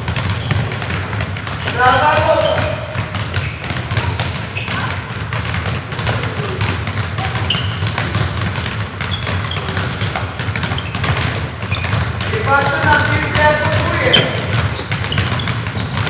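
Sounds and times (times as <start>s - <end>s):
footballs bouncing in a hall: 0.0s - 16.0s.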